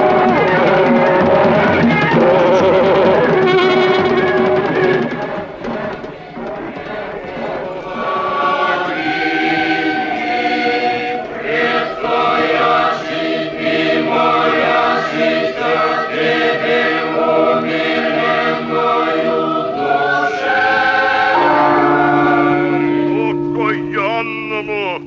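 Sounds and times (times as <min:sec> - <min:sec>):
choir chanting long chords: 0:00.0 - 0:24.8.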